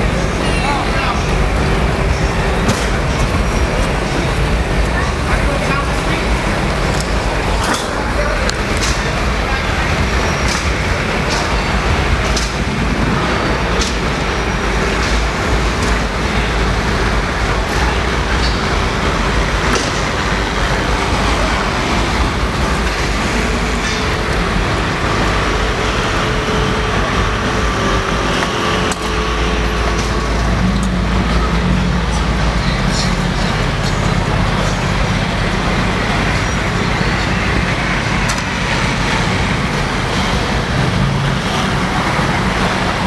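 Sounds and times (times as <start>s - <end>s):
low hall rumble: 0.0s - 43.0s.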